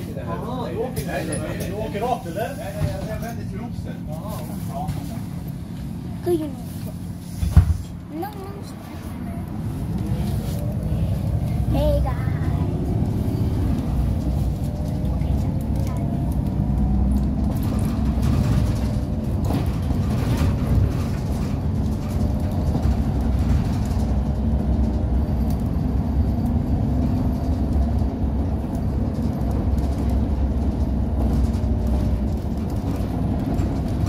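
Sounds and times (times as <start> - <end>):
bus engine rumble: 0.0 - 34.0
road noise: 0.0 - 34.0.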